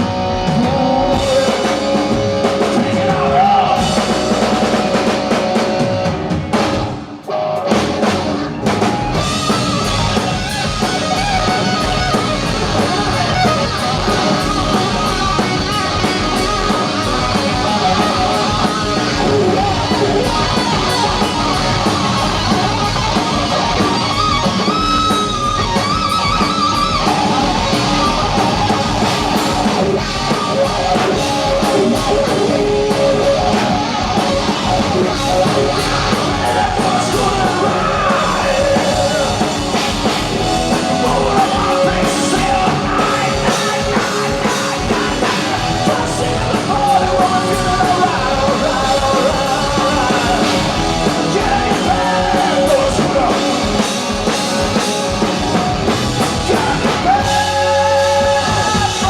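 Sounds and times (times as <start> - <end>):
electric guitar lead: 0.0 - 59.0
rock band playing live: 0.0 - 59.0.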